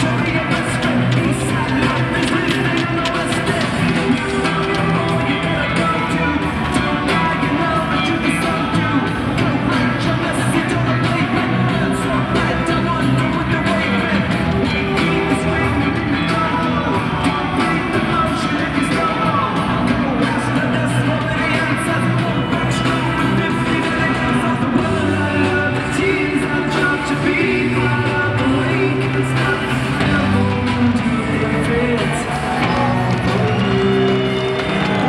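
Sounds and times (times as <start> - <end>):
crowd yelling: 0.0 - 35.0
rock song over loudspeakers: 0.0 - 35.0.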